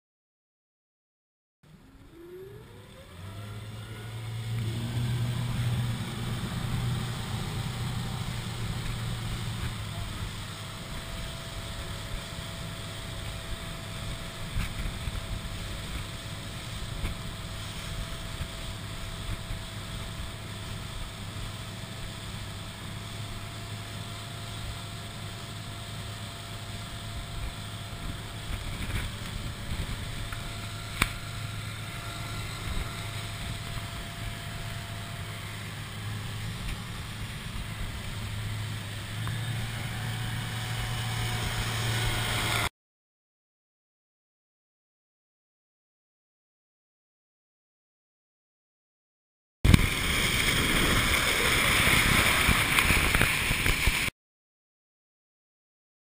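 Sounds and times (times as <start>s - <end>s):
wind: 1.6s - 42.7s, 49.6s - 54.1s
wake water rushing: 2.1s - 42.7s, 49.7s - 54.1s.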